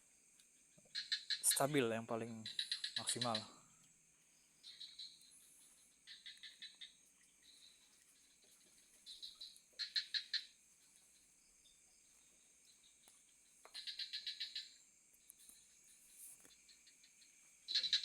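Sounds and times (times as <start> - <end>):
insects droning: 0.0 - 18.0
frogs trilling: 0.5 - 18.0.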